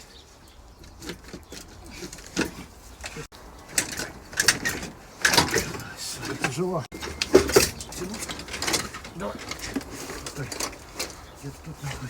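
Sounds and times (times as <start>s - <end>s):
metal parts and tools clanking: 0.7s - 12.0s.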